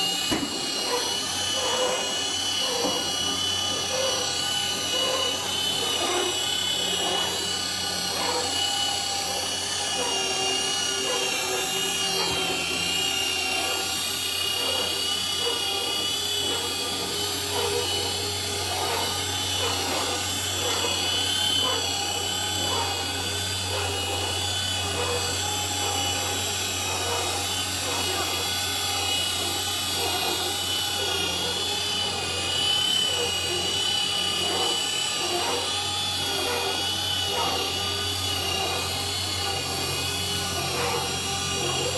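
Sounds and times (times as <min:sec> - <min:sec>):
roof seaming machine motor: 0:00.0 - 0:41.9.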